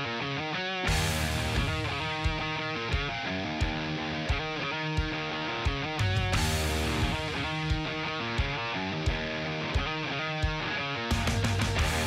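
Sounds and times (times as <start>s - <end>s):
guitar: 0.0s - 12.0s
steady drum beat: 0.9s - 12.0s.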